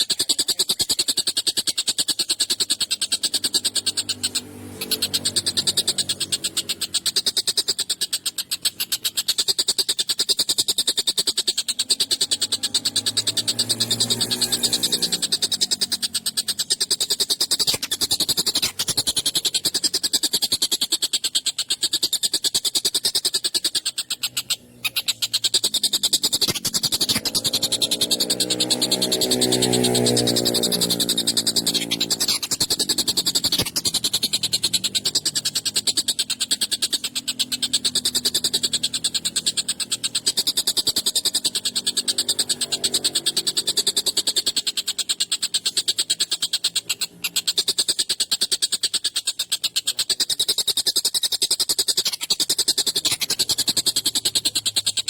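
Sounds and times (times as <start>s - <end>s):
kingfisher rattling chatter: 0.0s - 55.0s.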